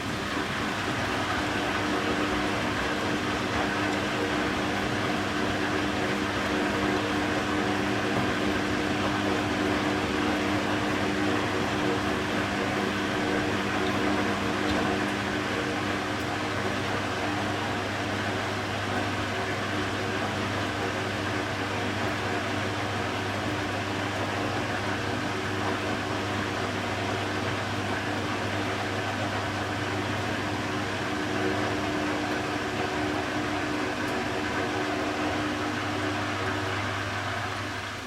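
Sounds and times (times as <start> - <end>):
washing machine hum: 0.0 - 38.0.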